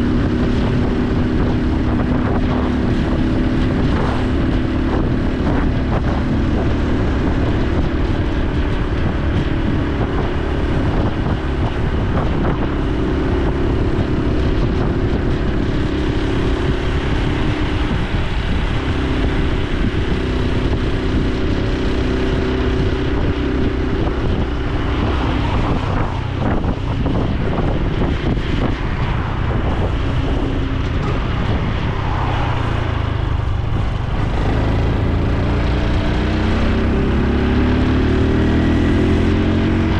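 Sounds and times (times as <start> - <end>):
motorcycle engine and exhaust: 0.0 - 39.9
wind noise on microphone: 0.0 - 39.9.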